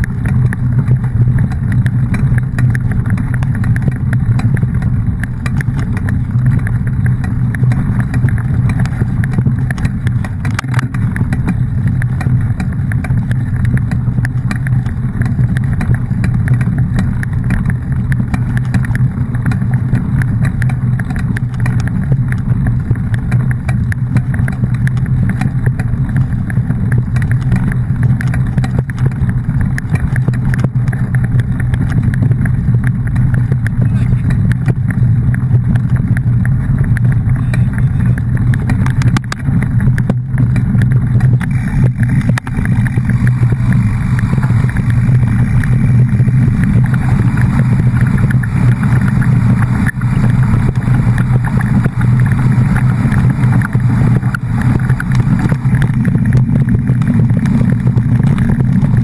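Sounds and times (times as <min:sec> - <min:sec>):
vehicle engine low rumble: 0:00.0 - 0:59.0.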